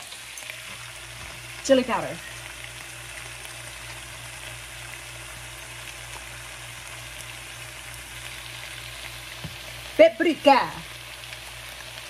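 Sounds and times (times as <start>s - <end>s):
shrimp sizzling in a frying pan: 0.0s - 12.0s.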